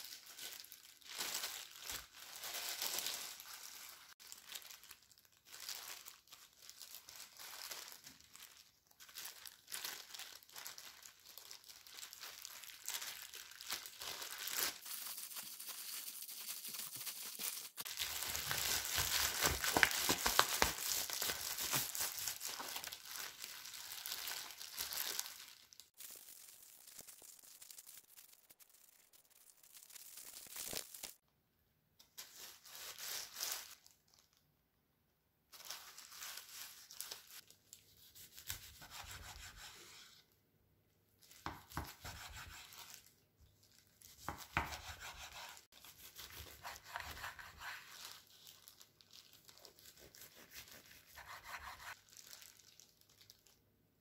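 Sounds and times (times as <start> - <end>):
plastic gloves crinkling: 0.0 - 31.2, 32.0 - 34.5, 35.5 - 40.3, 41.2 - 54.0.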